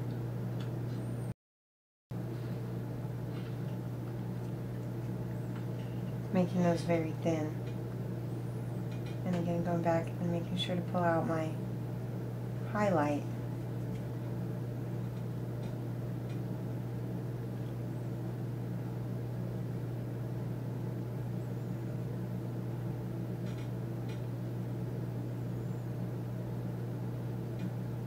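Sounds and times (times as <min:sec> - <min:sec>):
low machine hum: 0:00.0 - 0:01.4, 0:02.1 - 0:28.0.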